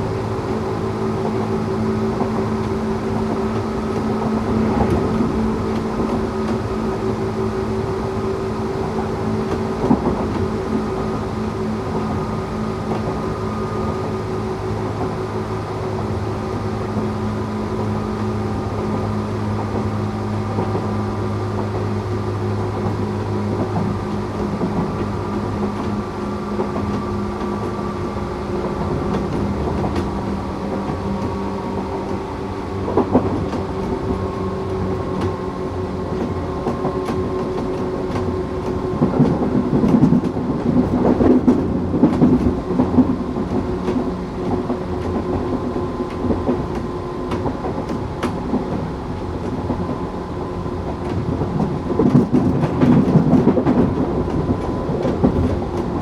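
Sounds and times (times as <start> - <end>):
train motor whine: 0.0 - 56.0
wheel rumble: 0.0 - 56.0.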